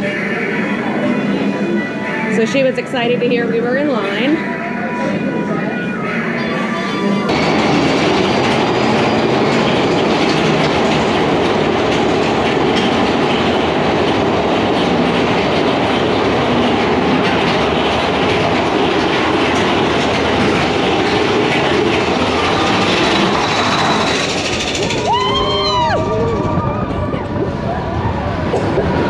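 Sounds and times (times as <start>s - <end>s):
roller coaster cars rattling: 0.0s - 29.0s.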